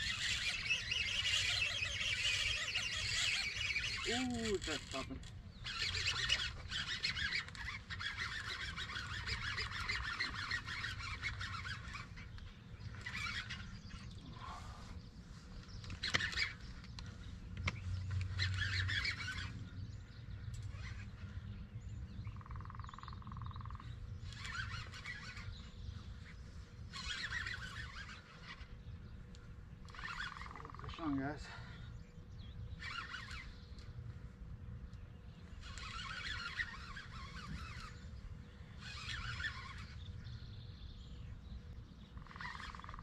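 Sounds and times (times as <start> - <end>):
fishing reel buzzing: 0.0 - 14.9, 15.7 - 16.9, 17.6 - 20.0, 20.6 - 21.5, 22.4 - 31.7, 32.7 - 34.0, 35.4 - 40.4, 42.2 - 43.0.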